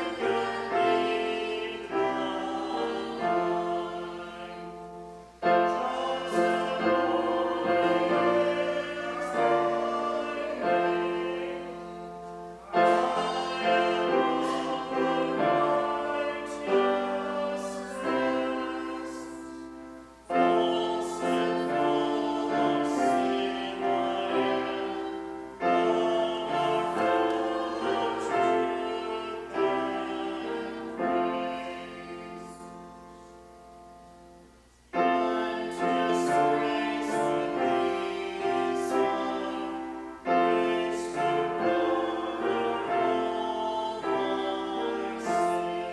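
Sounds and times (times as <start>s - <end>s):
hymn singing: 0.0s - 45.9s
piano accompaniment: 0.0s - 45.9s.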